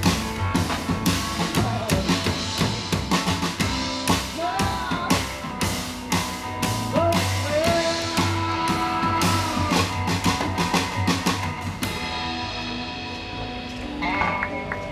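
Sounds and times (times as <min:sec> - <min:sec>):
drum kit: 0:00.0 - 0:14.9
electric guitar with bent notes: 0:00.0 - 0:14.9
upright bass: 0:00.0 - 0:14.9.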